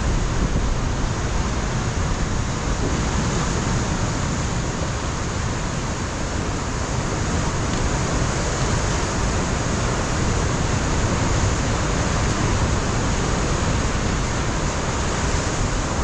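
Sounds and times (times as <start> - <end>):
ocean surf breaking on rocks: 0.0 - 16.0.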